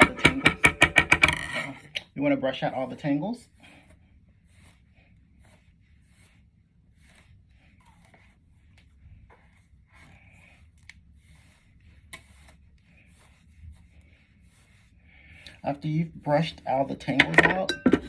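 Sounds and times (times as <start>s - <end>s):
brush strokes through wig: 2.5s - 17.2s.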